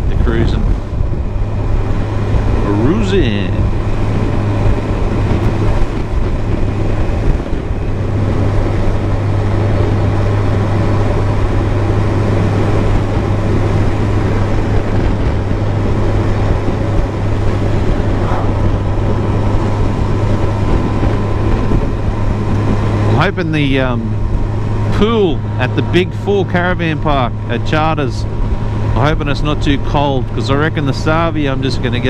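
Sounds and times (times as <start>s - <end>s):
motorcycle engine cruising: 0.0s - 32.0s
wind rushing on microphone: 0.0s - 32.0s.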